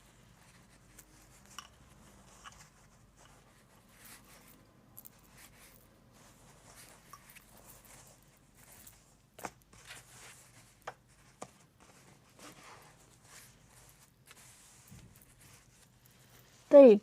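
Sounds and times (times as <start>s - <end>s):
fabric rustling: 0.0s - 17.0s.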